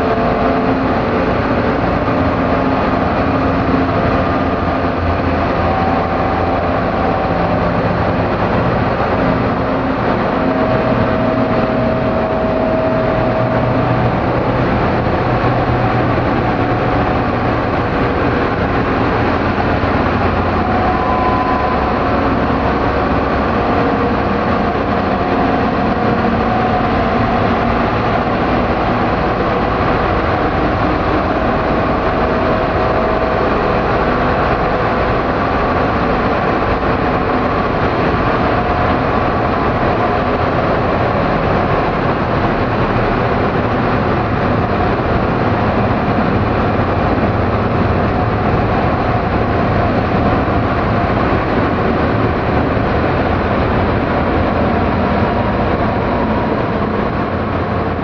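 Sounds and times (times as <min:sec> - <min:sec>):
rumbling noise drone: 0:00.0 - 0:58.0.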